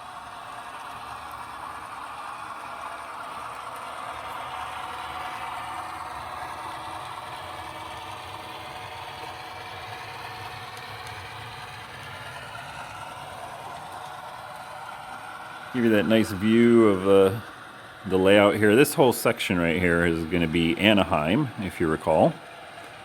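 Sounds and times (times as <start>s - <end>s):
model train diesel engine sound: 0.0s - 23.0s.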